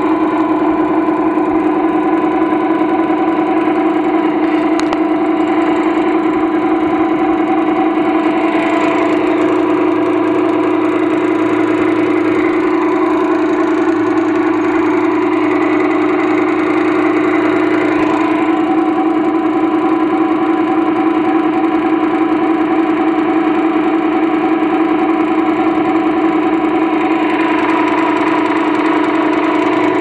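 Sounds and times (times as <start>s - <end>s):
electric motor humming: 0.0s - 30.0s.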